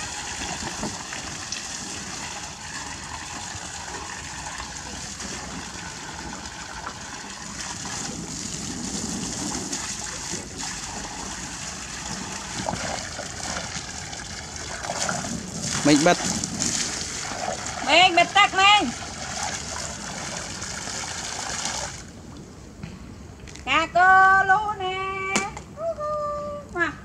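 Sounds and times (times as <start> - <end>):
water from hose pouring into pool: 0.0 - 22.2.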